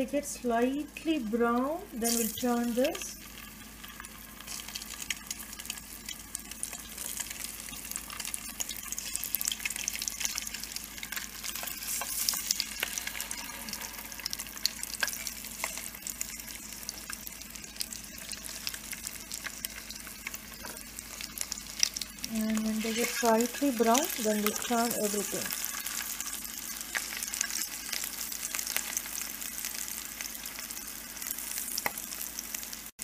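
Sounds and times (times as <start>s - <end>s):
eggs sizzling and crackling in oil: 0.0s - 33.0s.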